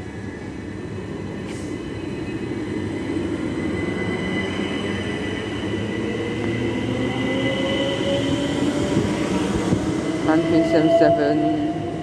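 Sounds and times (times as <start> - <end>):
train approaching rumble: 0.0 - 12.0.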